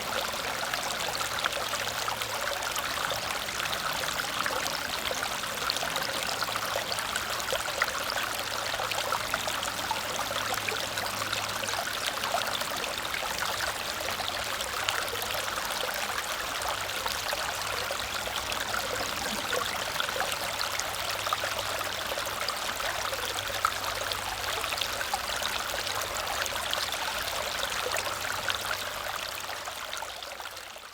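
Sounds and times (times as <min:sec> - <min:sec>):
small waterfall cascading: 0:00.0 - 0:30.9.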